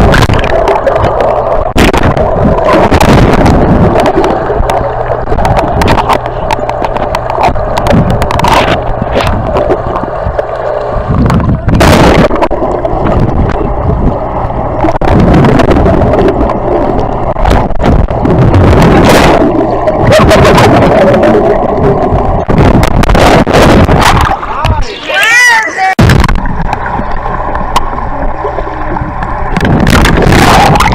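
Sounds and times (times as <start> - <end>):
water rushing and splashing: 0.0 - 30.9
wind buffeting microphone: 1.7 - 24.9, 26.0 - 30.9.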